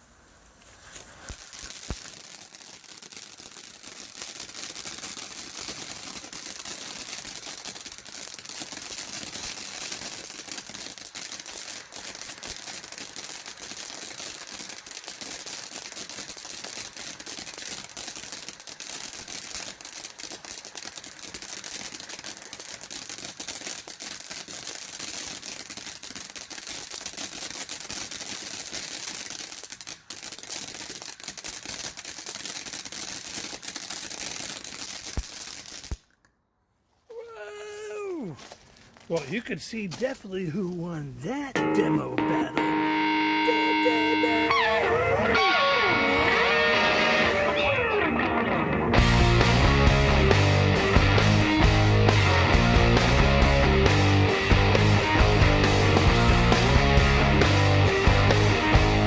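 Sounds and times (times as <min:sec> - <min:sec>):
firework fountains hissing and crackling: 0:00.0 - 0:36.1, 0:37.1 - 0:42.7, 0:43.6 - 0:48.1, 0:49.0 - 0:59.0.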